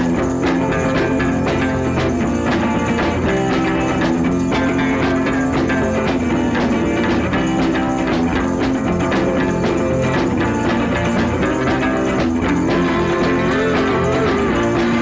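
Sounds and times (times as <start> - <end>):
band with guitar and drums: 0.0 - 15.0.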